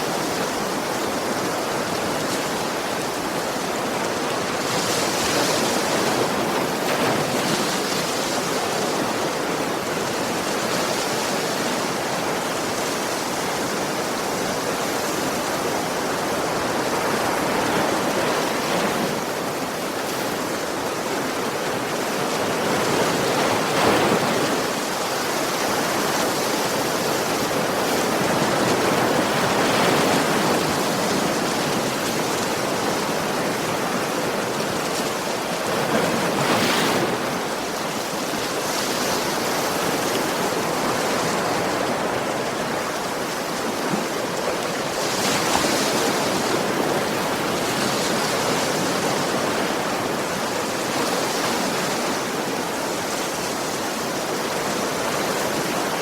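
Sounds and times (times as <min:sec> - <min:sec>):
sea waves washing onto beach: 0:00.0 - 0:56.0.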